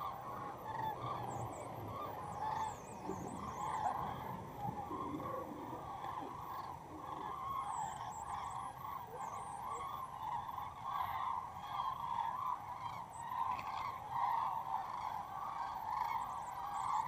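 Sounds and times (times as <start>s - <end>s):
flock of birds honking: 0.0s - 17.0s.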